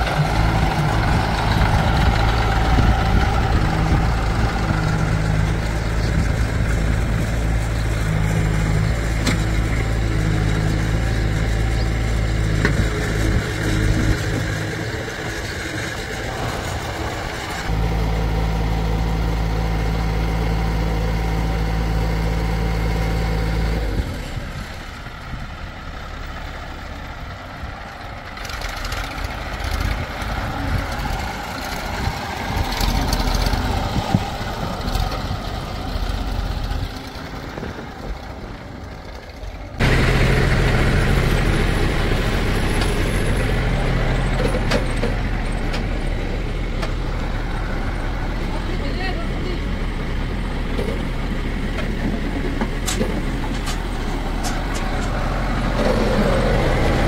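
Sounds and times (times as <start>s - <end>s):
engine knocks: 0.0s - 17.8s, 23.7s - 48.8s, 49.4s - 57.0s
diesel engines running: 0.0s - 57.0s.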